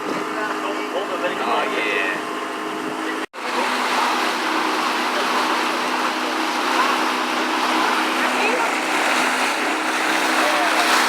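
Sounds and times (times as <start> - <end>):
boat motor running: 0.0 - 11.0
water rushing past hull: 0.0 - 11.0.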